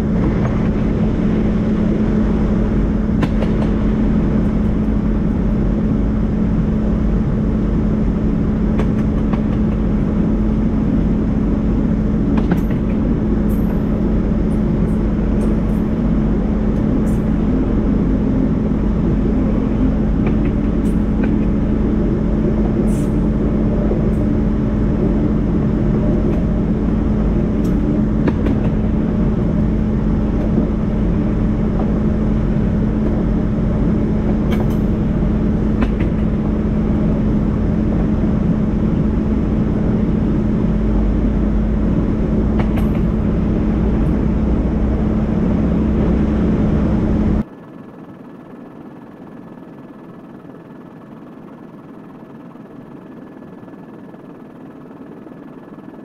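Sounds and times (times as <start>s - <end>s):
diesel locomotive engines droning: 0.0s - 56.0s
low rumble of train: 0.0s - 56.0s.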